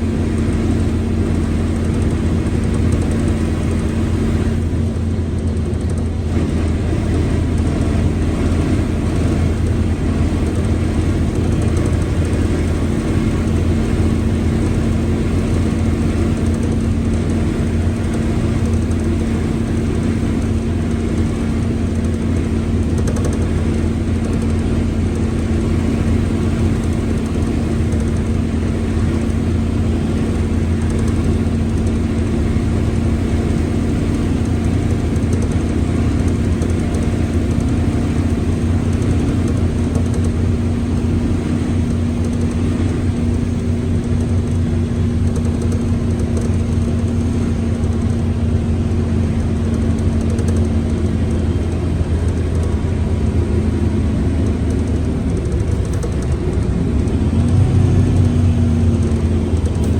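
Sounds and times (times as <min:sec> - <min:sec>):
bus diesel engine running: 0:00.0 - 0:59.9
gearbox growling hum: 0:00.0 - 0:59.9.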